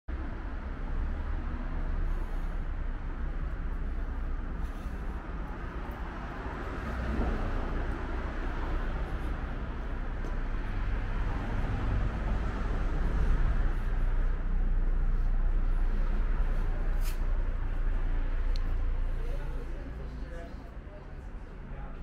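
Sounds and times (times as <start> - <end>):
low rumbling noise: 0.1 - 22.0.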